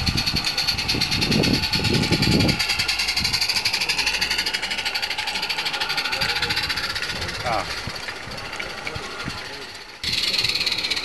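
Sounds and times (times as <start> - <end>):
steam hiss: 0.0 - 8.5, 9.2 - 11.0
low rumble: 0.0 - 10.6
steam locomotive chuffing: 0.0 - 11.0.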